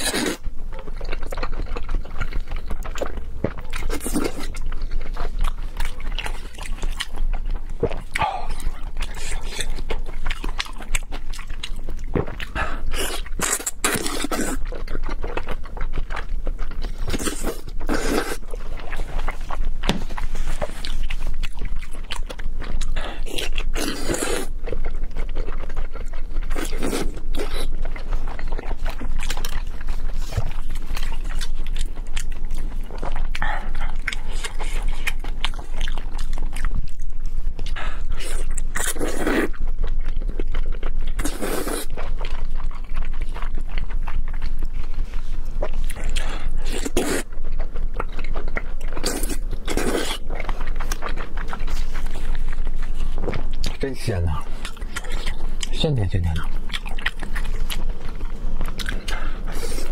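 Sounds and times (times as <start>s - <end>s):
slurping and wet chewing: 0.0s - 59.9s.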